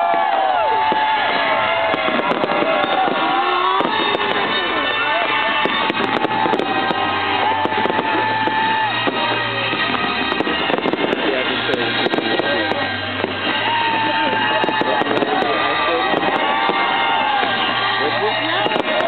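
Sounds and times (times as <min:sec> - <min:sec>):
fireworks crackling and popping: 0:00.0 - 0:19.0
fireworks whistling: 0:00.0 - 0:19.0.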